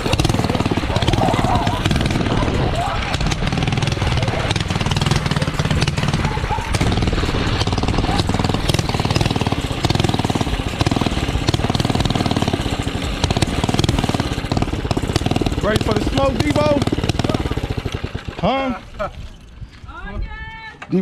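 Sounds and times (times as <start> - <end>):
small engine rapid putter: 0.0 - 19.6.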